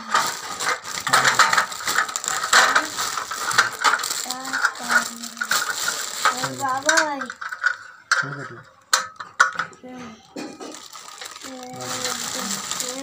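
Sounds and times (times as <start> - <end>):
plastic bag crinkling: 0.0 - 7.9, 10.3 - 13.0.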